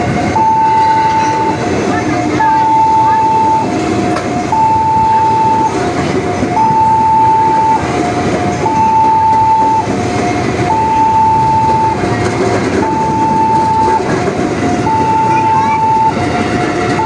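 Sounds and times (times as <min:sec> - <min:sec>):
passing train rumble: 0:00.0 - 0:17.0
two-tone crossing alarm: 0:00.0 - 0:17.0.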